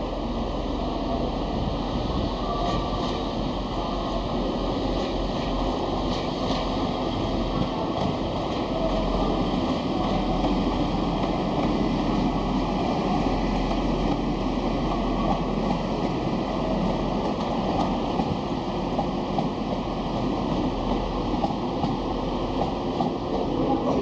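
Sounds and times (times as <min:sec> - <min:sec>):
train running on tracks: 0:00.0 - 0:24.0.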